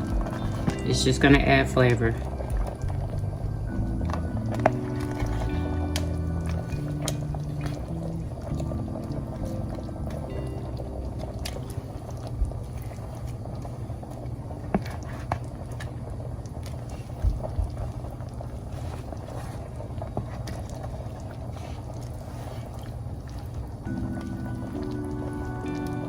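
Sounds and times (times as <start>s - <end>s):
sauce cooking in a pot: 0.0s - 26.0s.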